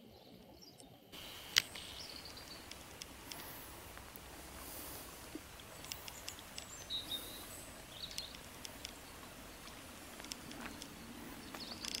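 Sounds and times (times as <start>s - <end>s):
light ticks: 0.8s - 12.0s
high bird chirps: 1.2s - 12.0s.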